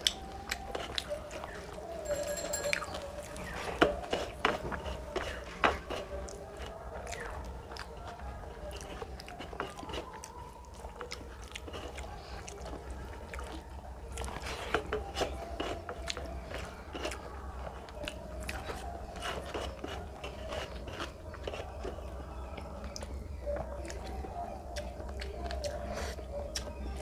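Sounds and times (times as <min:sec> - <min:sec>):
chewing with wet mouth clicks: 0:00.0 - 0:02.0, 0:02.7 - 0:27.0.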